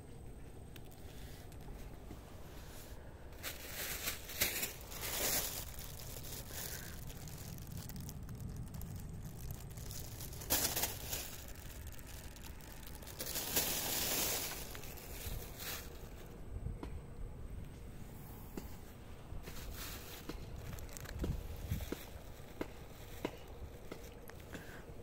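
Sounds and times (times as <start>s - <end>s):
steady low rumble: 0.0s - 25.0s
rustling and crinkling handling: 0.1s - 16.4s, 18.5s - 25.0s.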